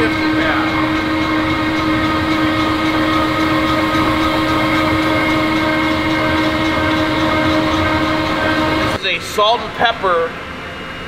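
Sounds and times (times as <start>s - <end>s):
floor grinder motor whine: 0.0s - 9.1s.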